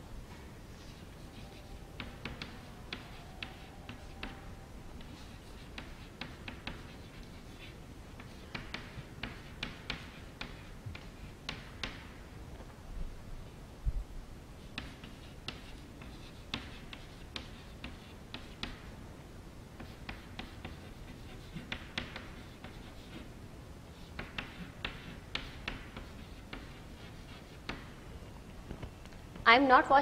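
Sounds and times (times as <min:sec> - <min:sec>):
chalk tapping and scratching on chalkboard: 0:00.4 - 0:12.2, 0:14.6 - 0:19.0, 0:19.7 - 0:28.0.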